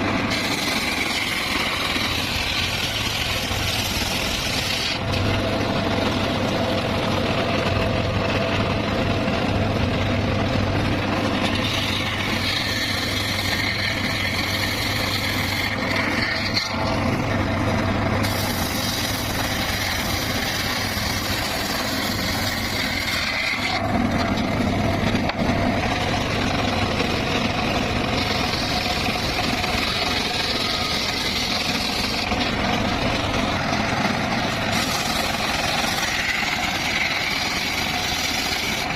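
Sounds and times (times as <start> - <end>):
circular saw cutting timber: 0.0 - 38.9.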